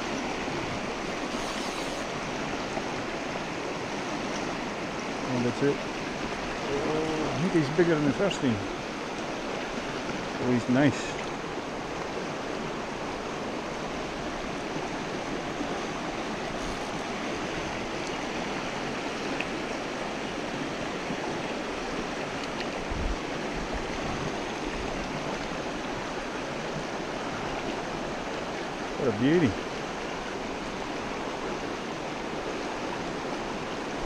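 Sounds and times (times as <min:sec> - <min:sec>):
stream rushing over stones: 0:00.0 - 0:34.0.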